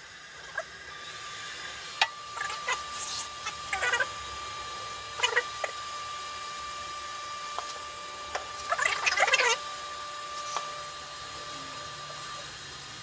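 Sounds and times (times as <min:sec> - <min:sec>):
printer high-pitched whine: 0:02.2 - 0:12.8.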